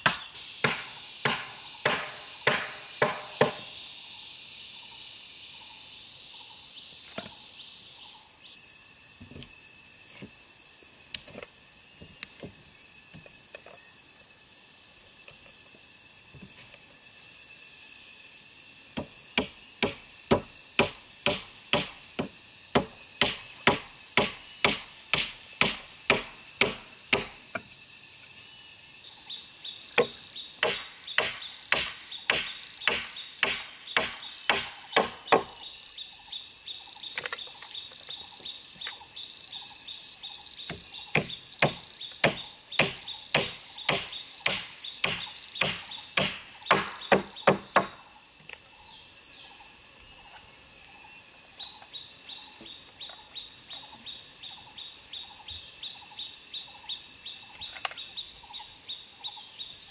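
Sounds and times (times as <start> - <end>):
insect chirping: 0.0 - 59.9.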